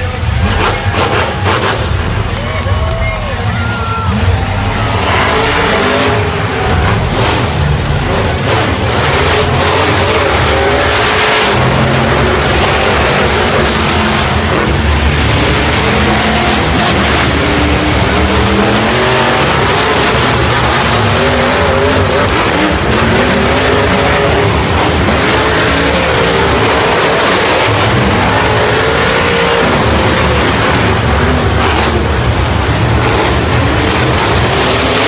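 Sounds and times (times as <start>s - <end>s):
monster truck engines revving: 0.0s - 35.0s.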